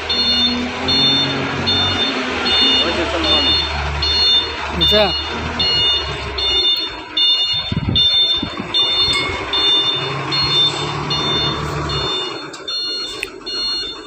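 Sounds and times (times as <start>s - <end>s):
low engine rumble: 0.0s - 14.0s
reversing alarm beeping: 0.0s - 14.0s.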